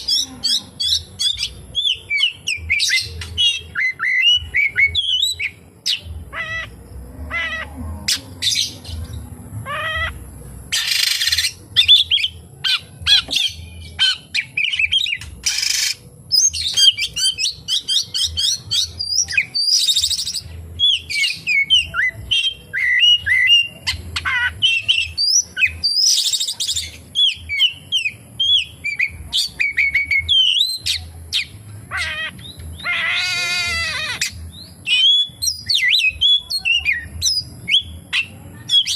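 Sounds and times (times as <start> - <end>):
bird singing whistled notes: 0.0 - 6.7, 7.4 - 38.9.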